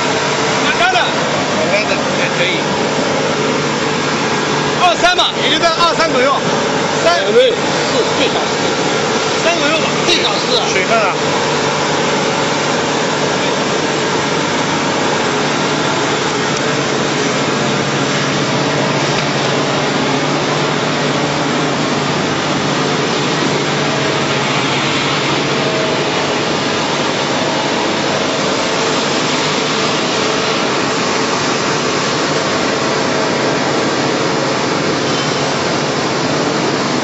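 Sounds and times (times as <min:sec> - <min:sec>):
washing machinery churning: 0:00.0 - 0:37.0.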